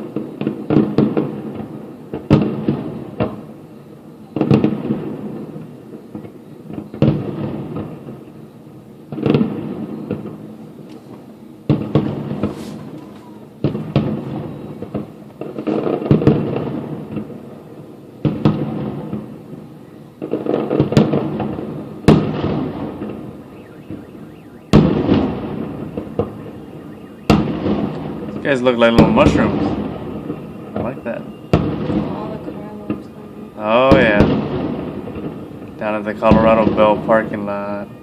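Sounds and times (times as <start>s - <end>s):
fireworks booming with echo: 0.0s - 38.0s
fireworks crackling: 0.0s - 38.0s.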